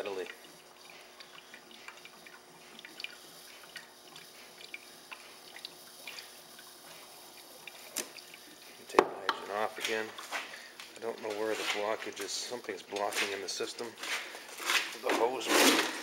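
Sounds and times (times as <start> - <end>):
liquid dripping ticks: 0.0 - 15.1.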